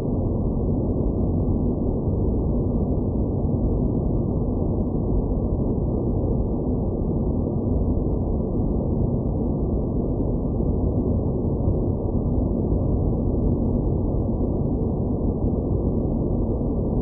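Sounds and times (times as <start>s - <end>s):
deep rumbling space ambience: 0.0s - 17.0s.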